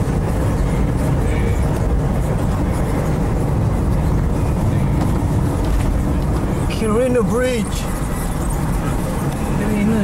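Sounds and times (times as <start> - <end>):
vehicle road and engine noise: 0.0 - 10.0.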